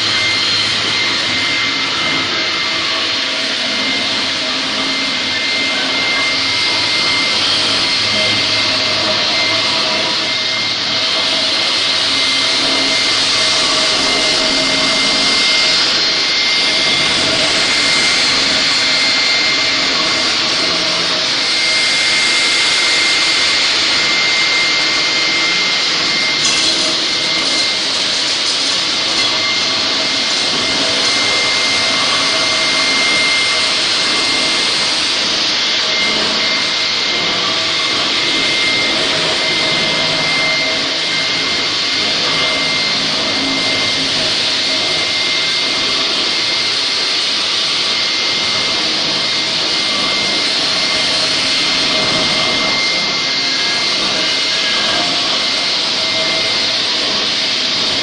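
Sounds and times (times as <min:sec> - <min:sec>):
floor grinder with high whine: 0:00.0 - 0:58.0.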